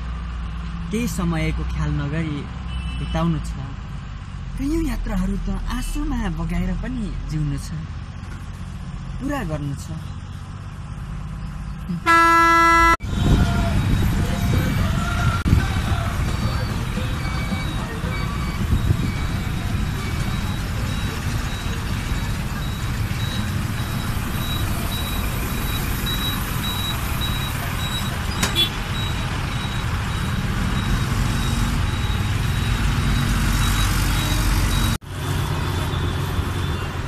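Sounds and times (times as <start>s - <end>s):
rickshaw road noise: 0.0s - 37.0s
street traffic noise: 0.0s - 37.0s.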